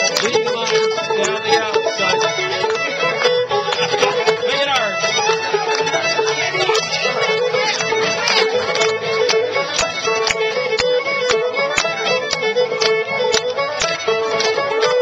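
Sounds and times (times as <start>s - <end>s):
fiddle-led dance band playing: 0.0s - 15.0s.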